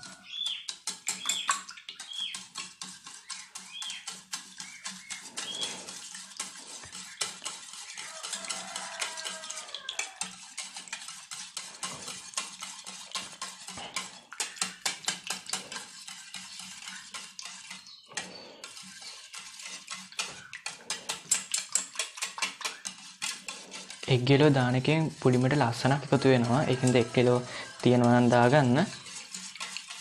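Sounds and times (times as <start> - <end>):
whisk clicking in metal bowl: 0.0 - 30.0.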